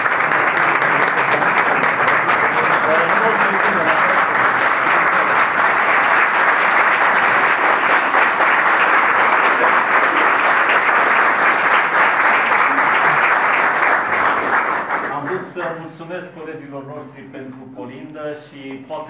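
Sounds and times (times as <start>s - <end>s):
people clapping: 0.0s - 15.8s.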